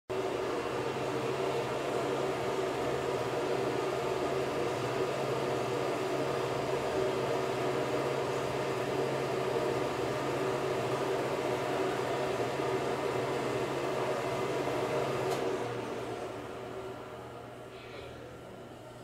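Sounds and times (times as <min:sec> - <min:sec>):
steady hum with hiss: 0:00.2 - 0:19.0.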